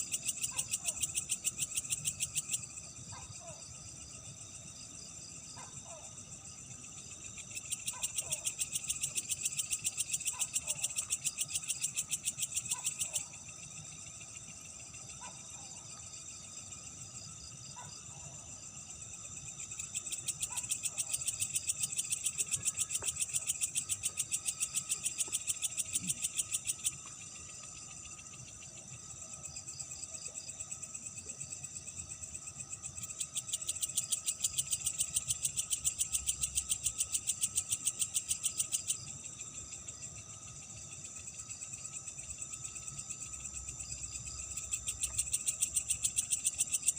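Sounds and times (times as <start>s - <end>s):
insect chorus: 0.0s - 46.9s
insect trill: 0.0s - 46.9s.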